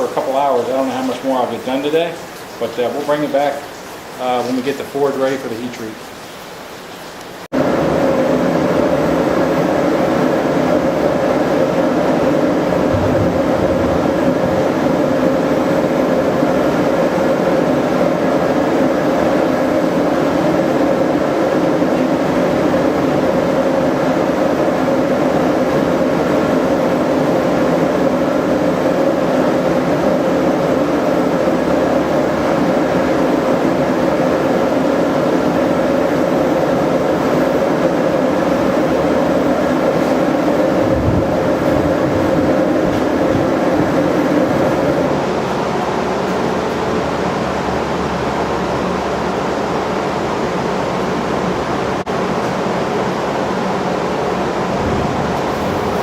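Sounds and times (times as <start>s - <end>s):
forge burner rushing: 7.5s - 56.0s.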